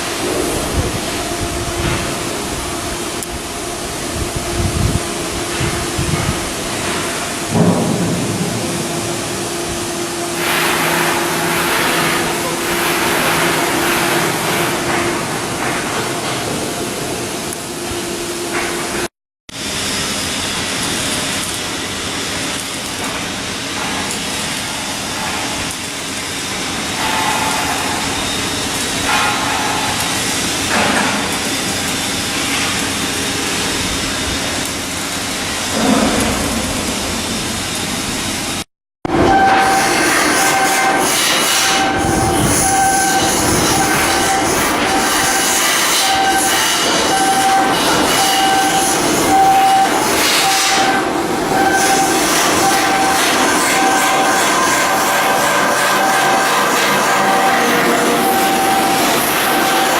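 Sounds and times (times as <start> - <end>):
machinery hum: 0.0 - 59.9.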